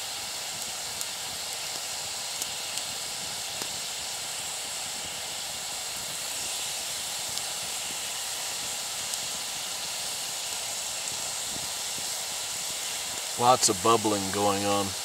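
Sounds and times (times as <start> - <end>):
water bubbling and hissing: 0.0 - 15.0.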